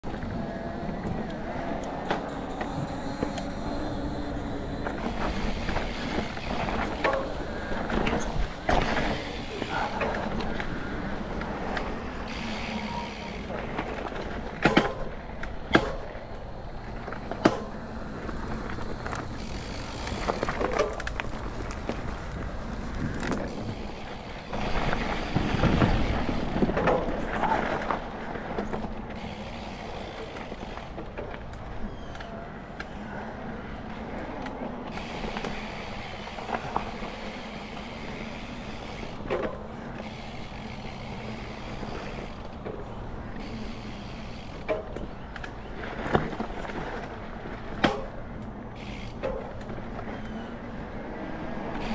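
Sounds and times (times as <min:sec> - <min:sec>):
bike clicks and rattles: 0:00.0 - 0:51.9
bike tyres on dirt: 0:00.0 - 0:51.9.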